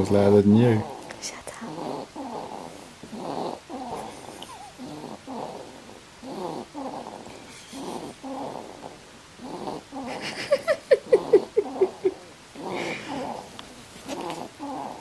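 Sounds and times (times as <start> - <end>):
baby snoring: 0.7 - 10.4, 11.0 - 15.0.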